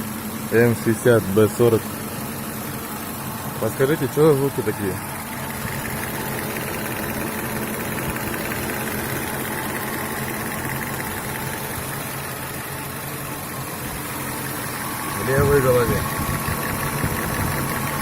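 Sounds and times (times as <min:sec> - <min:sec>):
car engine idling: 0:00.0 - 0:18.0
fast regular engine tapping: 0:00.6 - 0:18.0.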